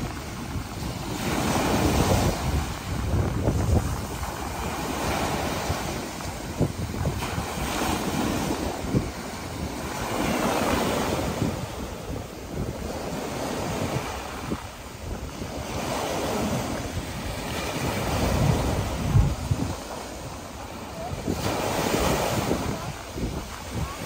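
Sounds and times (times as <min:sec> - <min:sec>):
waves breaking on beach: 0:00.0 - 0:24.0
wind buffeting microphone: 0:00.0 - 0:24.0.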